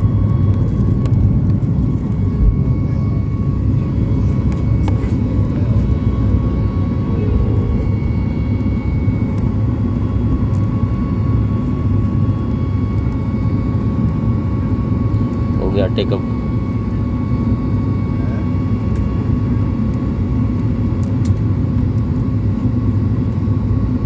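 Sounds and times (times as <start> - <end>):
jet engines rumbling: 0.0 - 24.0
thin steady whine: 0.0 - 24.0.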